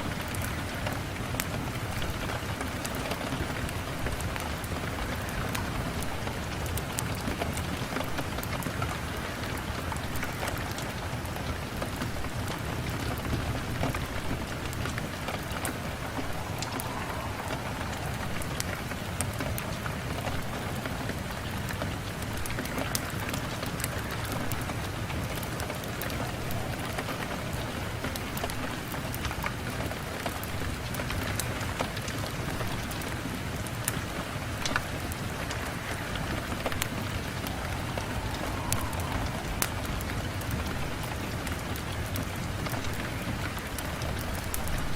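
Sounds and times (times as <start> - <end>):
rain on a window pane: 0.0 - 44.9.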